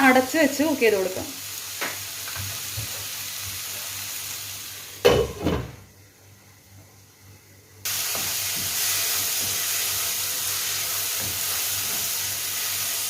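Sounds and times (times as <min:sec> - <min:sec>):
food sizzling in a pan: 0:00.0 - 0:05.7, 0:07.8 - 0:13.0.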